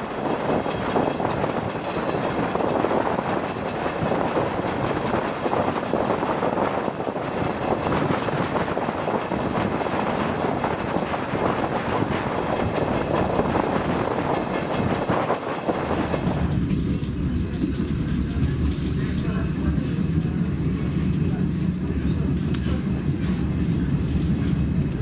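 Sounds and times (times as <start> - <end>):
clickety-clack of rails: 0.0 - 25.0
deep train rumble: 0.0 - 25.0
train wheels and running gear: 0.0 - 25.0.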